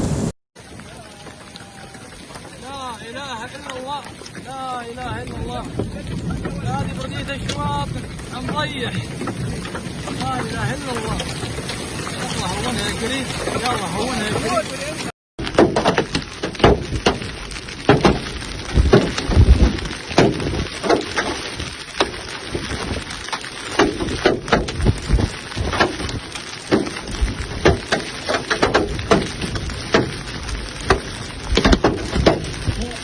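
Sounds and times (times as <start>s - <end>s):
hailstones hitting hard surfaces: 0.0s - 33.0s
hiss of falling hail and rain: 0.0s - 33.0s.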